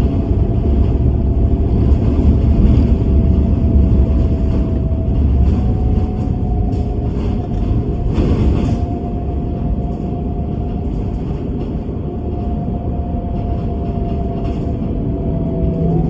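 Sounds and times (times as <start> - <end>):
bus engine rumble: 0.0 - 16.0
constant whine: 0.0 - 16.0.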